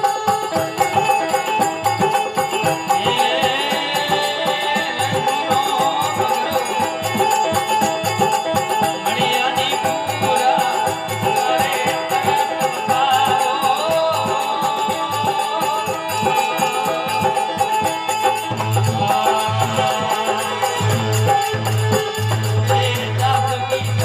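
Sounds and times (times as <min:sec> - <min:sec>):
hand drum beat: 0:00.0 - 0:24.0.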